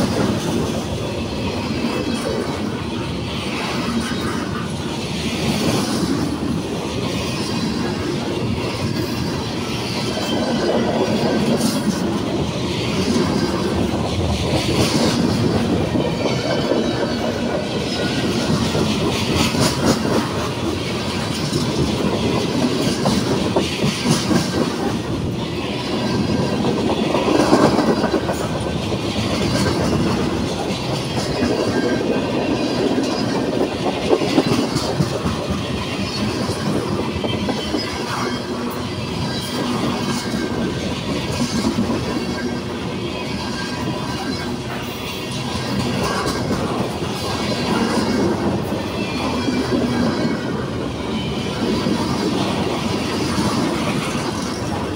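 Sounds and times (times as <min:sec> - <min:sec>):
clickety-clack of wheels: 0:00.0 - 0:54.9
freight train wheels on rails: 0:00.0 - 0:54.9.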